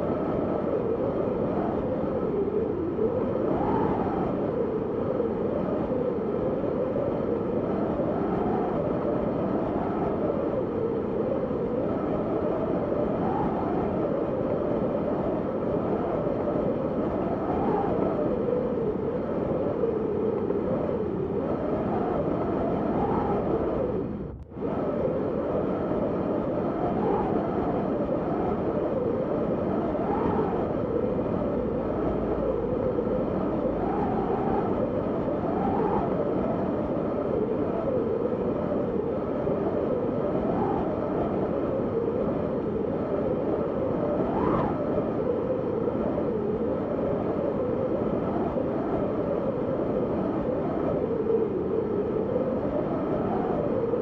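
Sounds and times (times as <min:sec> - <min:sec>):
wind blowing in gusts: 0:00.0 - 0:54.0.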